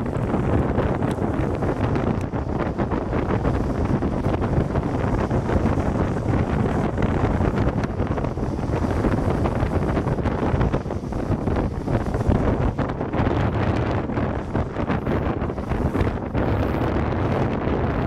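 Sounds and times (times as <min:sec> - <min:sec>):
low road rumble: 0:00.0 - 0:18.0
wind buffeting microphone: 0:00.0 - 0:18.0.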